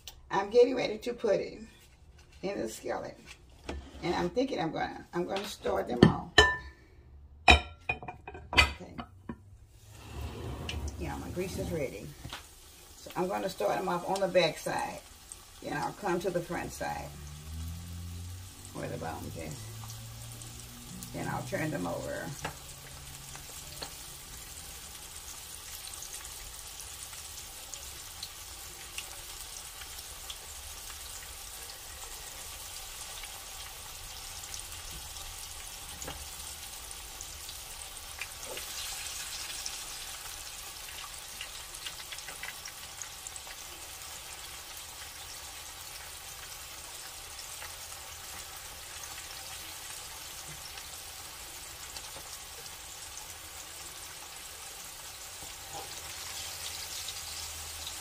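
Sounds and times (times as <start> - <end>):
meat sizzling in oil: 11.0 - 58.0.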